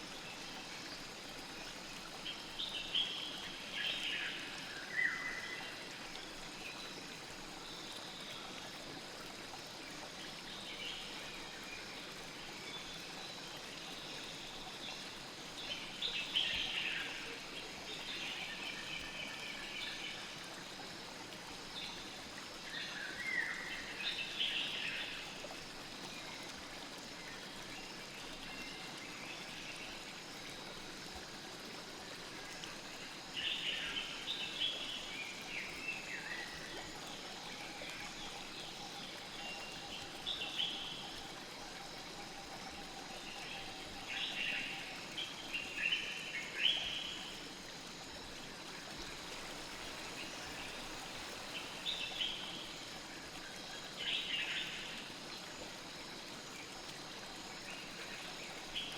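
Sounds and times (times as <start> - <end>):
stream flowing: 0.0 - 58.9.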